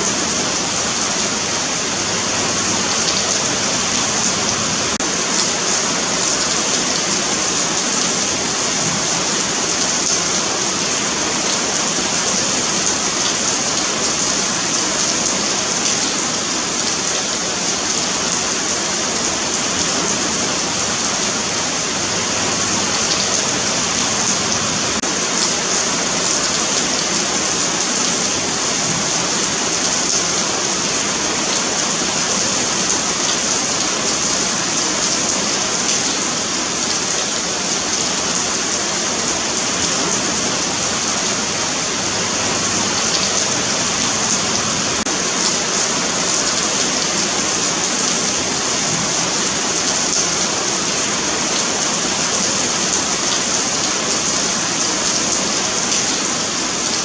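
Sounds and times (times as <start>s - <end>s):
rain on pavement: 0.0s - 57.0s.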